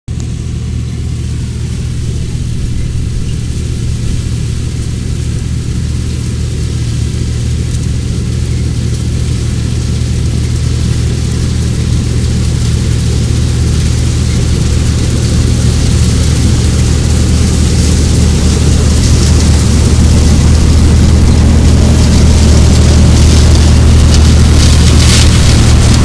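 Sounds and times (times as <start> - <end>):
combine harvester running: 0.1 - 26.0.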